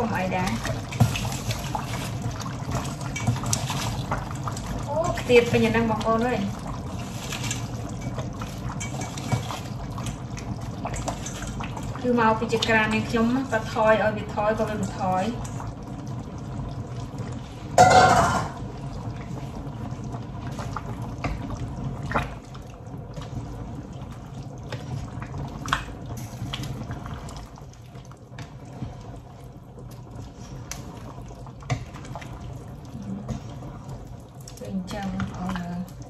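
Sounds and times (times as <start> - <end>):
curry bubbling in a pot: 0.0 - 36.0.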